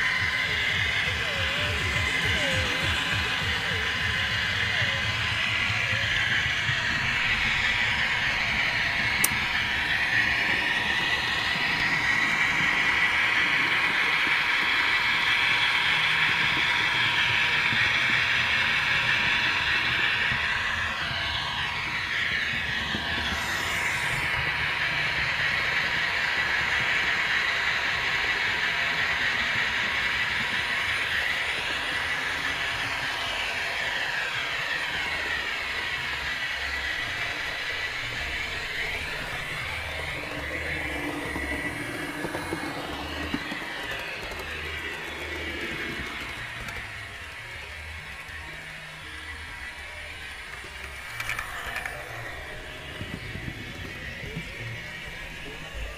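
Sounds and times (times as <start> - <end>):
model train motor whining: 0.0 - 55.9
wheels rolling on rails: 0.0 - 55.9.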